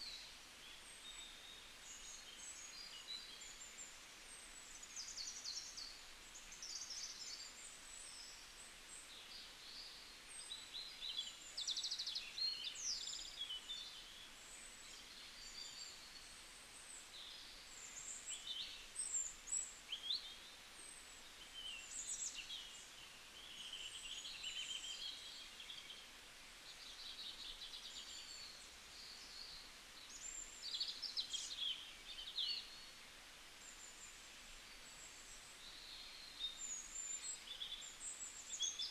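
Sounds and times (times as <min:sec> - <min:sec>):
faint background hiss: 0:00.0 - 0:38.9
songbirds chirping and trilling: 0:00.0 - 0:38.9.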